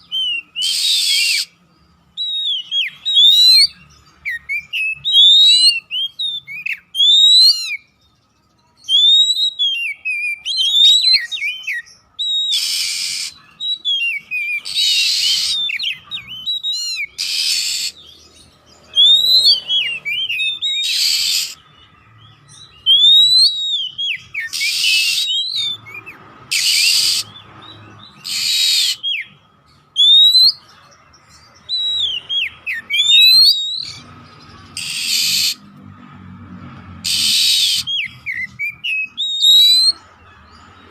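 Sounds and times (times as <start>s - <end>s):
magpie-robin singing whistled notes: 0.0s - 35.7s, 37.0s - 40.9s.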